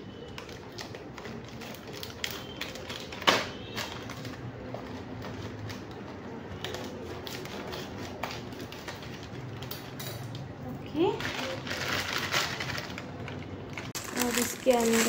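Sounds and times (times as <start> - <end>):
scissors snipping foil packet: 0.3 - 6.0, 6.6 - 9.9, 11.1 - 15.0.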